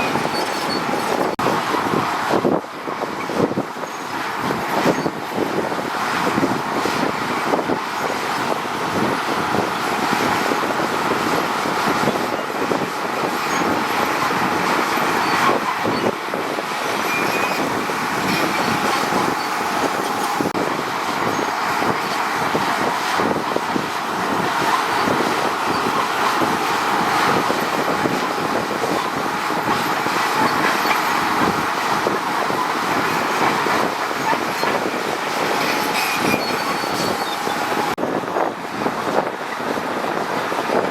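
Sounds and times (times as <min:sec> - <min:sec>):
steel tracks clanking: 0:00.0 - 0:38.0
diesel engine running: 0:00.0 - 0:40.9.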